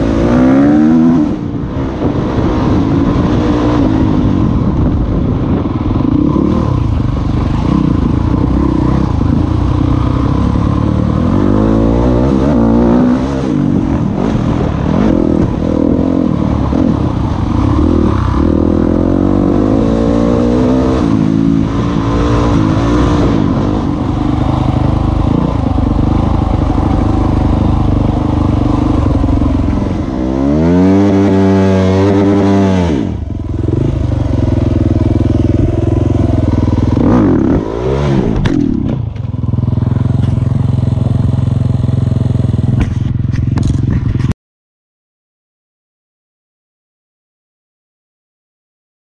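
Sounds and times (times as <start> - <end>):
dirt bike engine revving: 0.0 - 1.6, 5.8 - 44.3.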